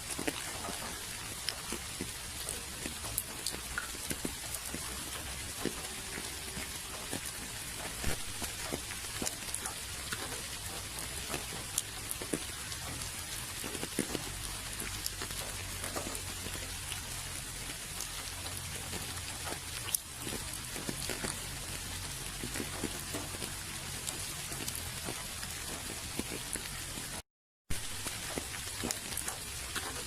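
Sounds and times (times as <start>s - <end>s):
rain hissing: 0.0s - 30.0s
raindrops tapping: 0.0s - 30.0s.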